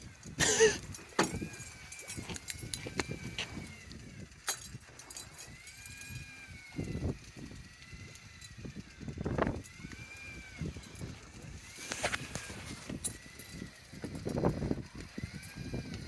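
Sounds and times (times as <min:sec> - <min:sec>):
electric fishing reel motor whining: 0:00.0 - 0:16.0.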